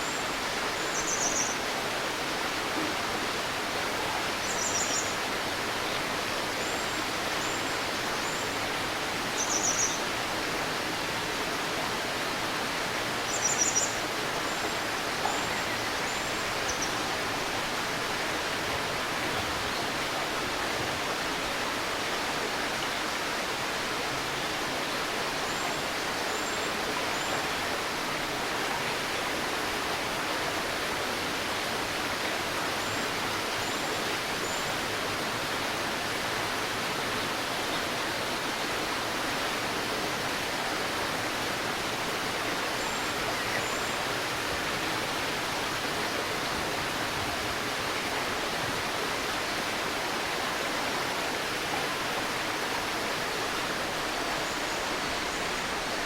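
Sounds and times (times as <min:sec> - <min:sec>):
river babbling: 0:00.0 - 0:56.0.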